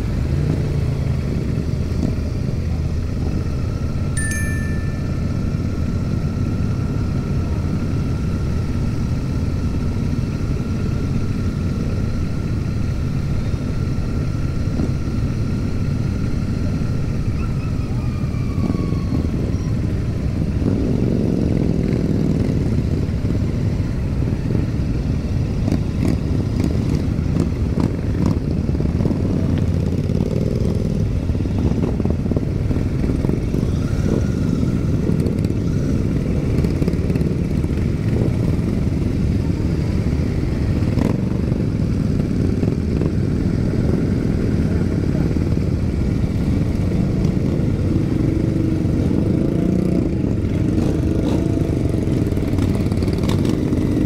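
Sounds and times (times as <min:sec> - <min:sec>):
motorcycle engines rumbling: 0:00.0 - 0:54.0.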